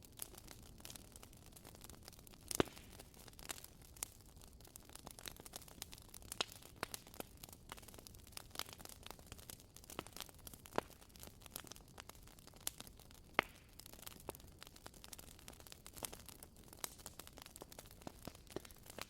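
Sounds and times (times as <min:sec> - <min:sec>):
faint steady hiss: 0:00.0 - 0:19.0
firewood crackling: 0:00.0 - 0:19.0.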